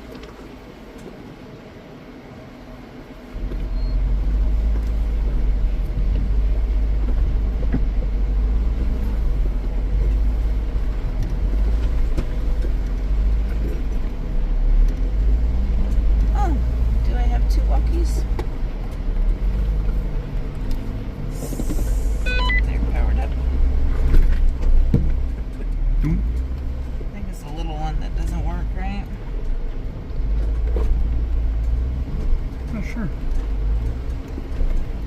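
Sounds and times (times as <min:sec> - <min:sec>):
vehicle engine and tyres rumbling: 0:00.0 - 0:35.0.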